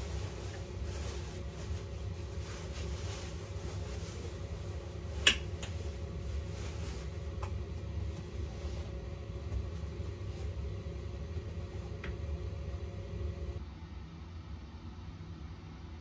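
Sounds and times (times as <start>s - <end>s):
air conditioning hum: 0.0s - 16.0s.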